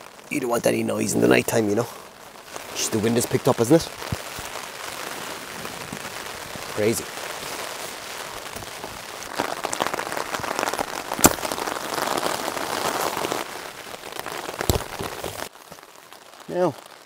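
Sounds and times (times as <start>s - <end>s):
rain pattering on tent fabric: 0.0s - 17.0s
tent fabric rustling: 0.8s - 15.9s.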